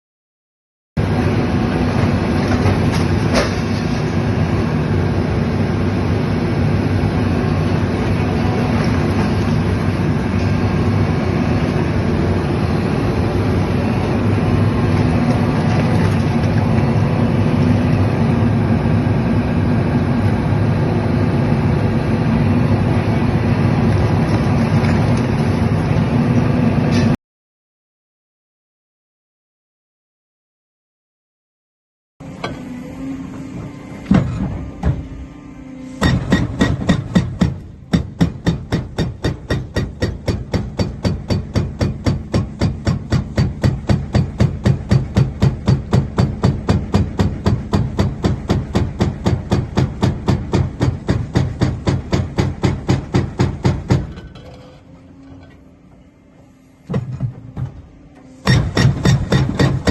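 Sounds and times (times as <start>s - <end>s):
excavator rumbling: 1.0s - 27.2s, 32.2s - 59.9s.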